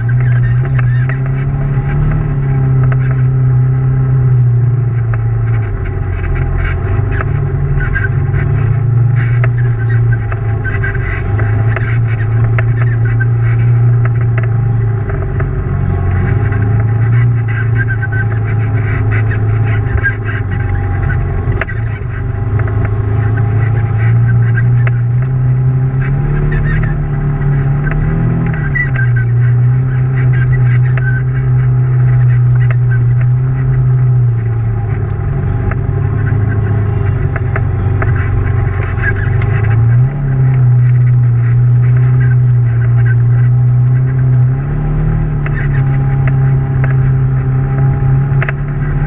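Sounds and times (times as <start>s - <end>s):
utility vehicle engine driving: 0.0s - 49.0s.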